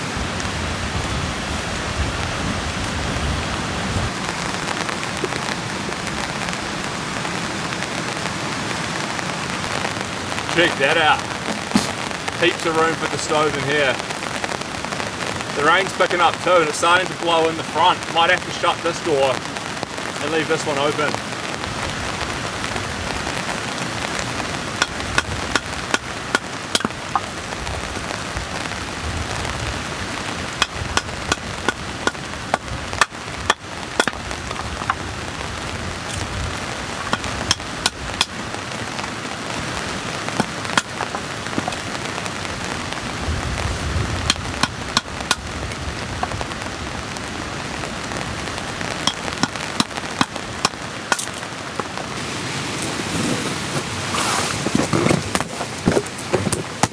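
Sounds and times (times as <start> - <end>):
heavy rain on tent fabric: 0.0 - 56.9.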